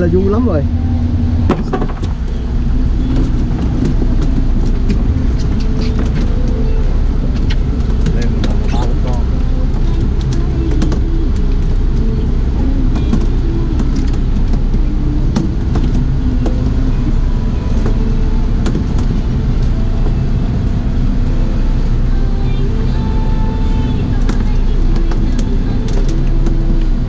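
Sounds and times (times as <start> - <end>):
outboard motors droning: 0.0 - 27.0.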